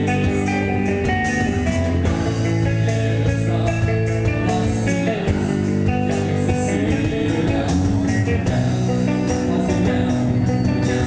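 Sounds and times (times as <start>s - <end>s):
drums with cymbals: 0.0s - 11.0s
electric guitar chords: 0.0s - 11.0s.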